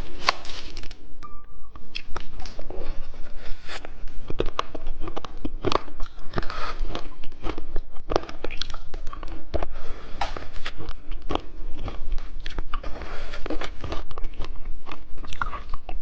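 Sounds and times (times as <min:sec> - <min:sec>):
candy being chewed crunching: 0:01.8 - 0:16.0.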